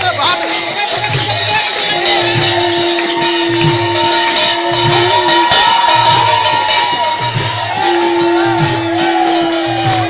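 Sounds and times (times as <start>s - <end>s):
held melody line: 0.0s - 10.0s
jingling percussion: 0.0s - 10.0s
steady drum beat: 0.0s - 10.0s.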